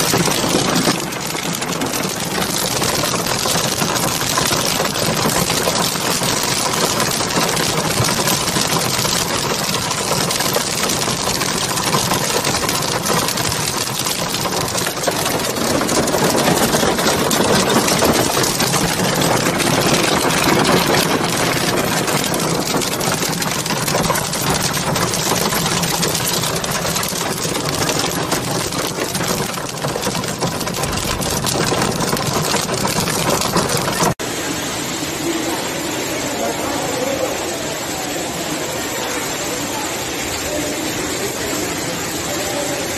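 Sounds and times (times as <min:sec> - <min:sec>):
hail pelting down: 0:00.0 - 0:42.9.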